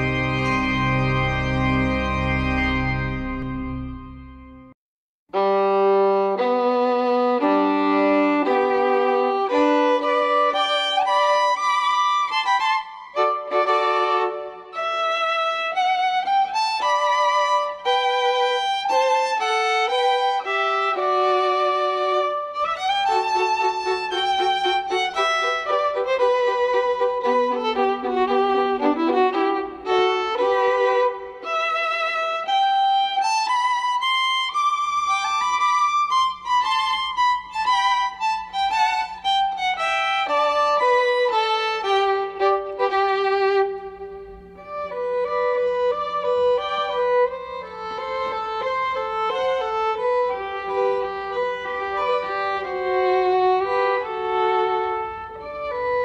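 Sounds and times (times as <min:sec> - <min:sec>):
violin melody: 0:00.0 - 0:56.0.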